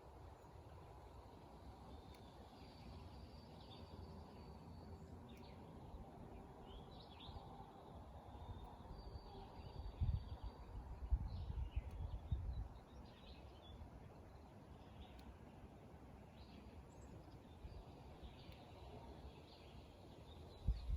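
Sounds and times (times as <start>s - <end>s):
faint birds chirping: 0.2s - 20.9s.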